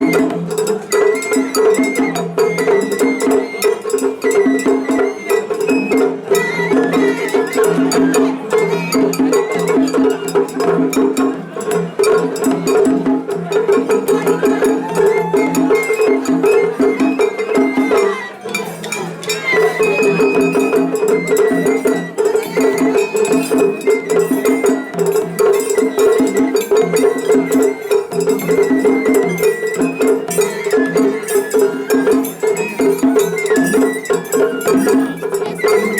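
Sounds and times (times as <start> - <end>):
bamboo flute melody: 0.0 - 35.9.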